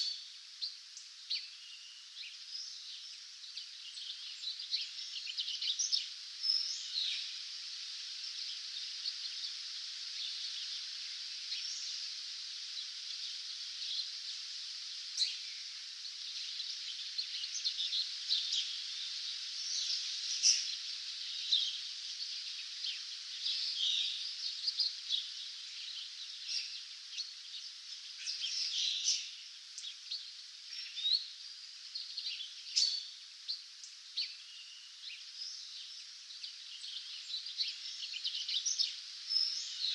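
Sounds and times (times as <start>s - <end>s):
songbirds chirping and trilling: 0.0s - 39.9s
steady hiss: 0.0s - 39.9s.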